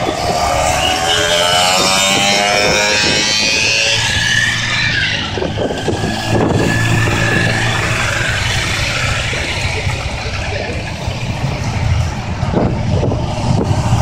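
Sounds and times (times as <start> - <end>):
motorcycles riding past: 0.0 - 14.0.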